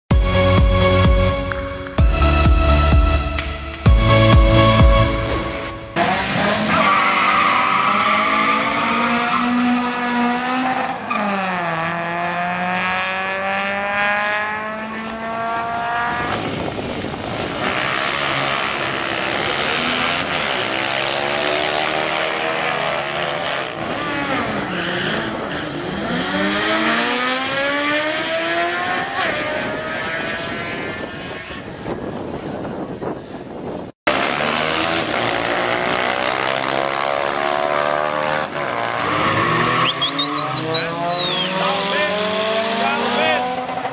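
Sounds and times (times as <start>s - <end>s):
racing engines accelerating: 0.2s - 31.8s, 34.1s - 43.9s.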